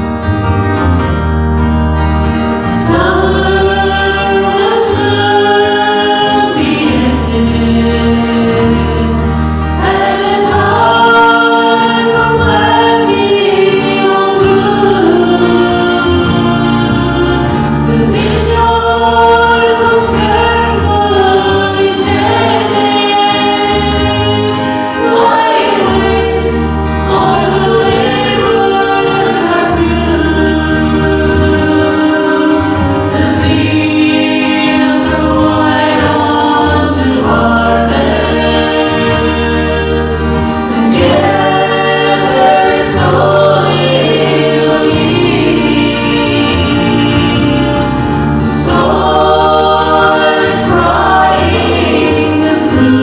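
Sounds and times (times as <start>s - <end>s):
group singing gospel song: 0.0s - 53.0s
instrumental accompaniment with bass: 0.0s - 53.0s.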